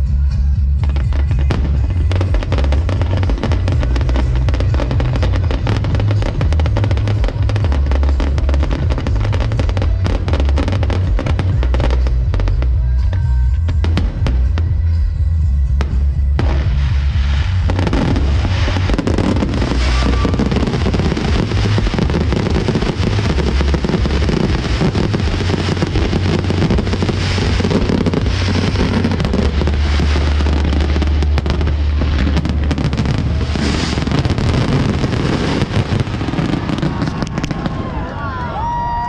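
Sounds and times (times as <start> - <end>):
fireworks bursting and crackling: 0.0 - 39.0.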